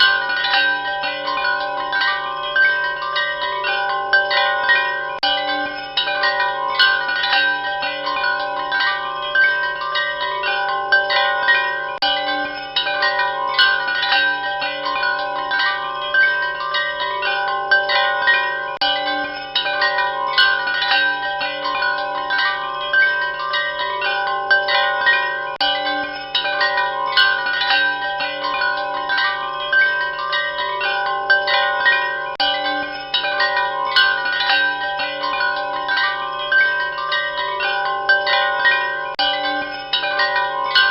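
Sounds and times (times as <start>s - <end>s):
wind chimes ringing: 0.0s - 40.9s.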